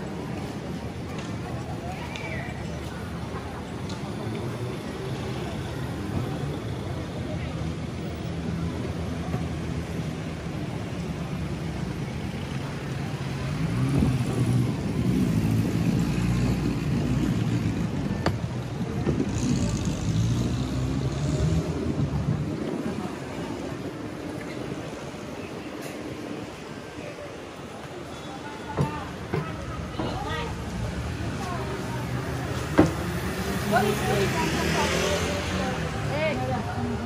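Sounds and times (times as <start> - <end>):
street noise: 0.0 - 37.0.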